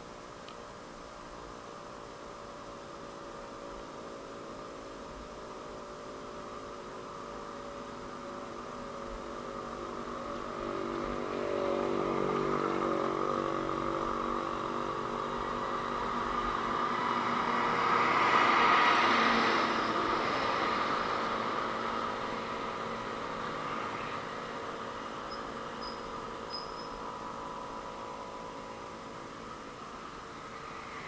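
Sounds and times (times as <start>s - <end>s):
vehicle engine approaching: 2.7s - 31.0s.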